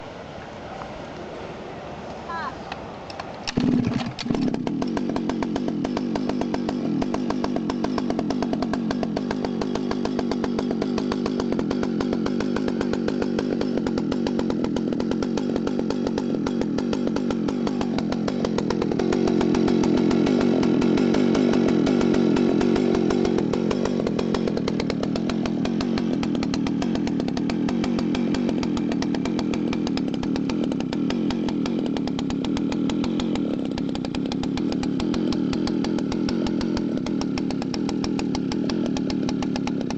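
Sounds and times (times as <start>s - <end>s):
chainsaw engine running: 3.4s - 39.9s.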